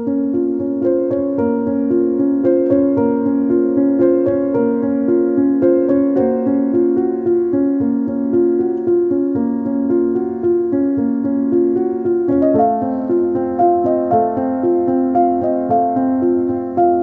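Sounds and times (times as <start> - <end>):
sustained melodic instrumental music: 0.0 - 17.0.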